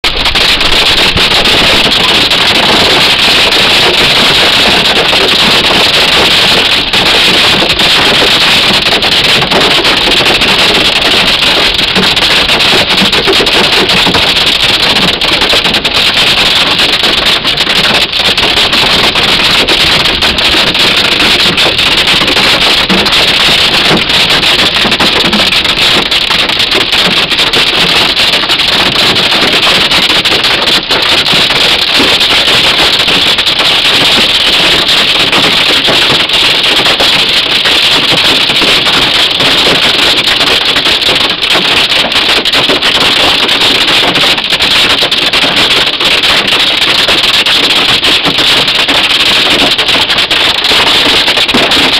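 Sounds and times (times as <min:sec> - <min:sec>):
hail drumming on car roof: 0:00.0 - 0:51.9.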